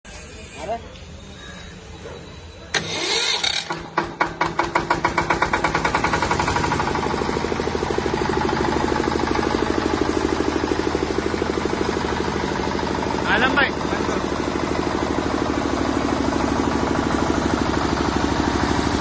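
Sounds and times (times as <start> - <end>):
diesel generator engine starting: 2.6 - 19.0.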